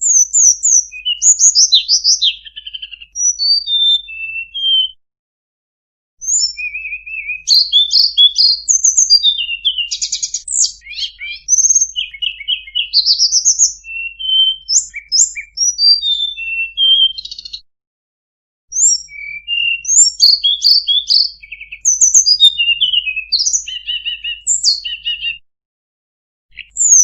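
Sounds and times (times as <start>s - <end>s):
songbird singing: 0.0s - 5.0s, 6.2s - 17.6s, 18.7s - 25.4s, 26.5s - 27.0s.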